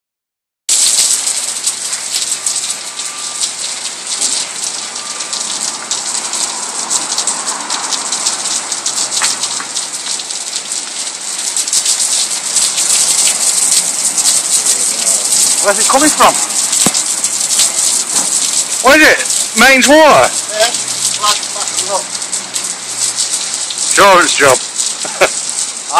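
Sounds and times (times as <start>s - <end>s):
water pouring and splashing: 0.7s - 25.9s.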